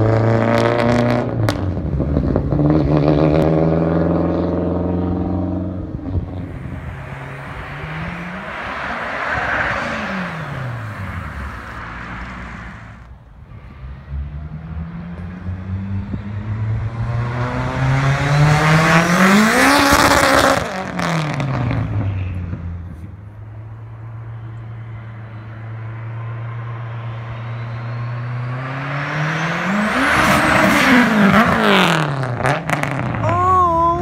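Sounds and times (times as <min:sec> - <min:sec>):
car engine accelerating with whine: 0:00.0 - 0:33.4.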